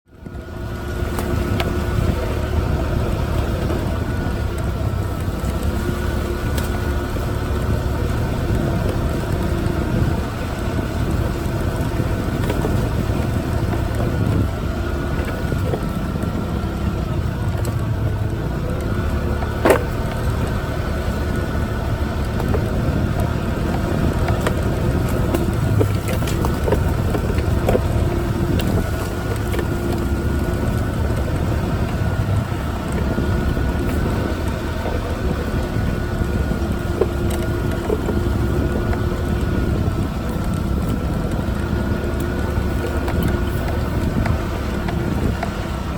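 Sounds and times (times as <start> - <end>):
moped engine running: 0.0 - 45.9.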